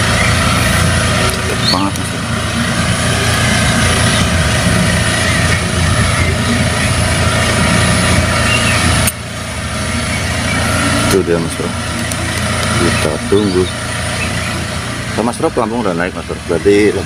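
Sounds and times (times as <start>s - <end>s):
loud motor drone: 0.0s - 17.0s.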